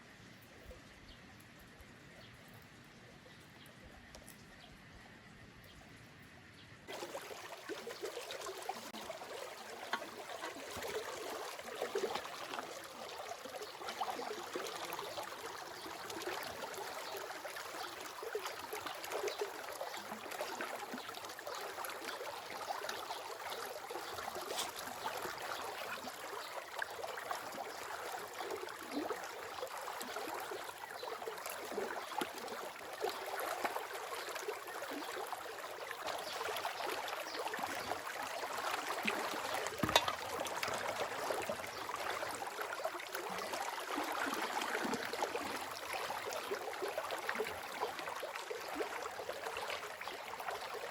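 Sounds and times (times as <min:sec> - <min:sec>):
stream babbling: 0:06.9 - 0:50.9.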